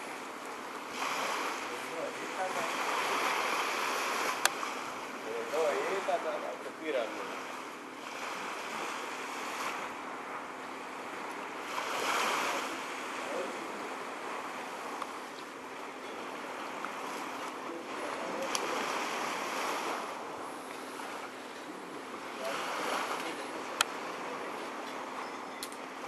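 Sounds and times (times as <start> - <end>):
small waves lapping on sand: 0.0 - 26.0.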